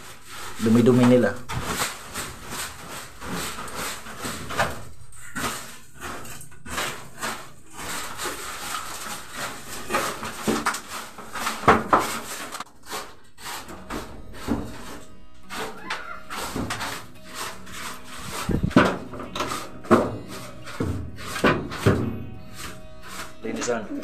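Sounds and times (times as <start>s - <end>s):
stick broom sweeping wooden floor: 0.0s - 24.0s.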